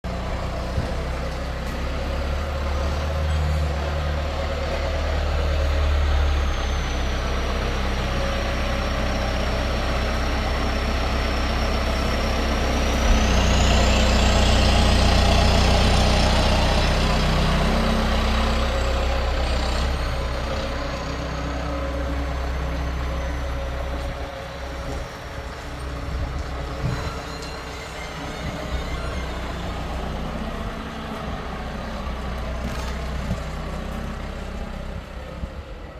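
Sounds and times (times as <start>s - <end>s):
tractor diesel engine rumbling: 0.0s - 35.9s.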